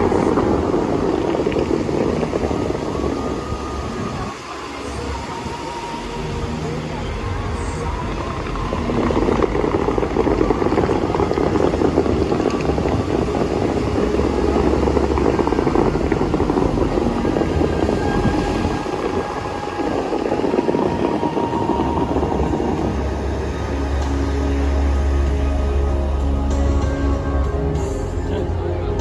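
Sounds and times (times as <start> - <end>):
faint music: 0.0 - 29.0
fountain water jets roaring: 0.0 - 29.0.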